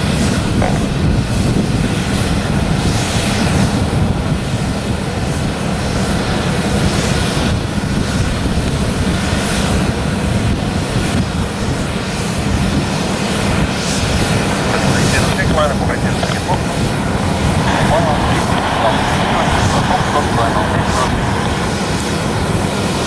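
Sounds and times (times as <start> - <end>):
distant jet engines rumbling: 0.0 - 23.0.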